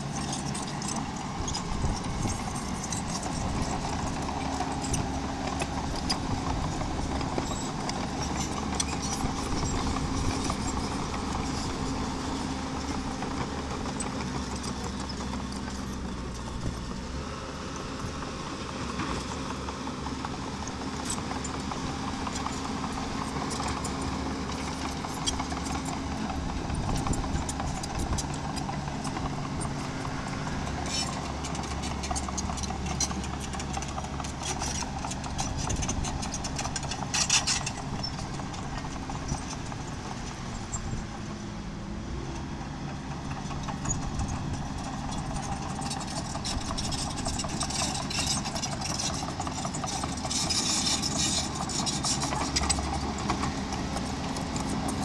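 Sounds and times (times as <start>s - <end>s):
small dozer engine running: 0.0s - 55.0s.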